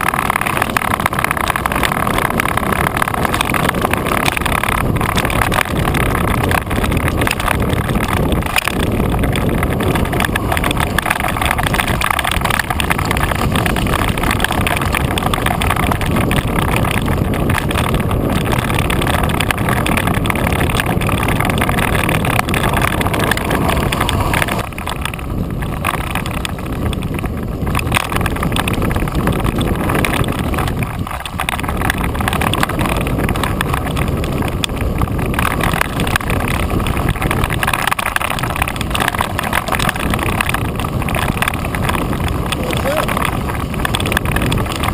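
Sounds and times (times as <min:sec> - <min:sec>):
bike tyre rattling over dirt: 0:00.0 - 0:44.9
wind rushing over camera: 0:00.0 - 0:44.9.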